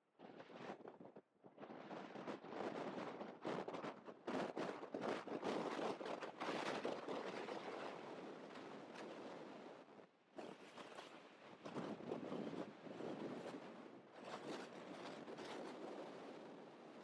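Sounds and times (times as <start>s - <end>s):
wind buffeting microphone: 0.3s - 11.0s, 11.6s - 17.0s.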